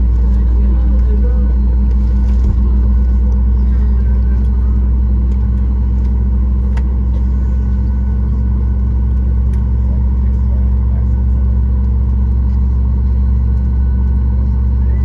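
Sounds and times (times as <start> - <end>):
airplane cabin rumble and hum: 0.0 - 15.0.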